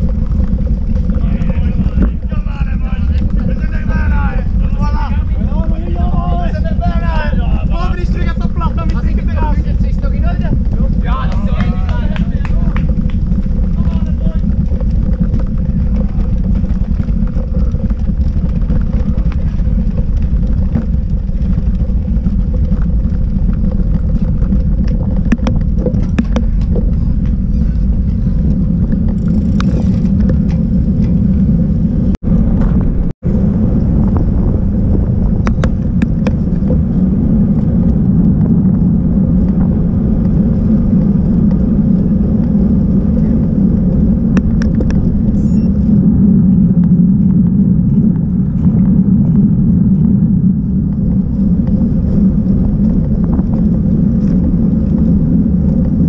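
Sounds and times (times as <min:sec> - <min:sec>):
tyres rumbling on road: 0:00.0 - 0:56.0
wind buffeting microphone: 0:00.0 - 0:56.0.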